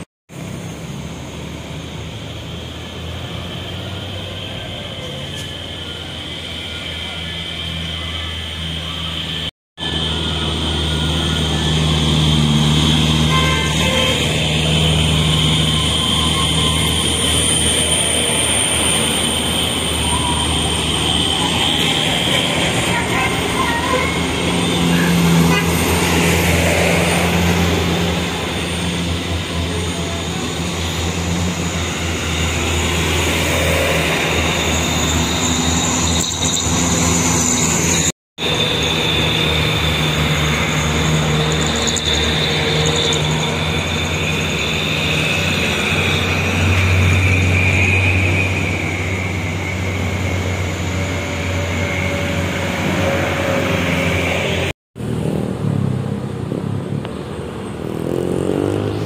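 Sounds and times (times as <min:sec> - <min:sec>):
truck diesel engines droning: 0:00.0 - 0:59.0.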